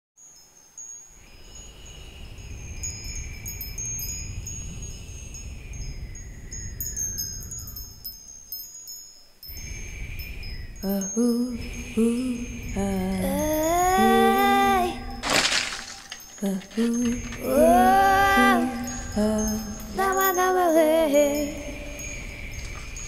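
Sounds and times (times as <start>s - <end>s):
high tinkling chime tones: 0.2s - 23.0s.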